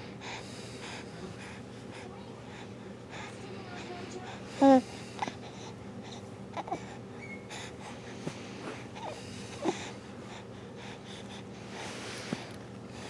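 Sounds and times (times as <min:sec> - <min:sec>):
steady low hum: 0:00.0 - 0:13.0
baby breathing: 0:00.2 - 0:13.0.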